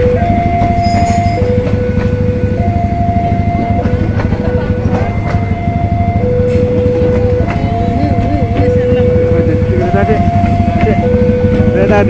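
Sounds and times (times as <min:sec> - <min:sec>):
crossing alarm two-tone: 0:00.0 - 0:12.0
trains rumbling past: 0:00.0 - 0:12.0.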